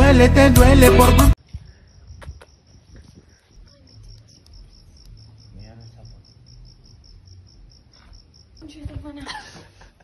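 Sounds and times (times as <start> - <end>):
crickets chirping: 1.4 - 10.0.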